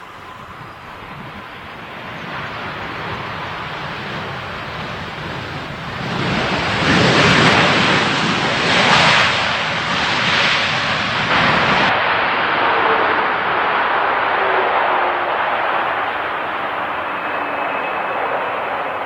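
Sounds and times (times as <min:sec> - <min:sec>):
jet airliner engine noise: 0:00.0 - 0:19.0
wind buffeting microphone: 0:00.0 - 0:19.0.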